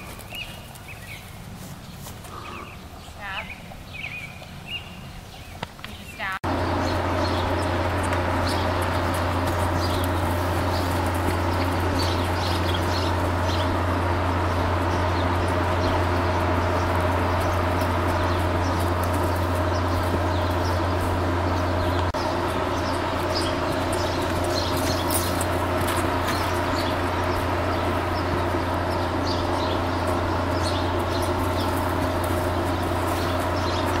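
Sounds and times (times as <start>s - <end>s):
outdoor background noise: 0.0s - 34.0s
small birds chirping: 0.0s - 34.0s
loud steady low hum: 6.2s - 34.0s.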